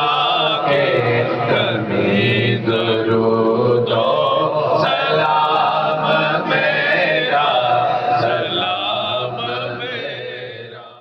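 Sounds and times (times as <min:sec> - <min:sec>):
men and boys chanting a hymn: 0:00.0 - 0:11.0.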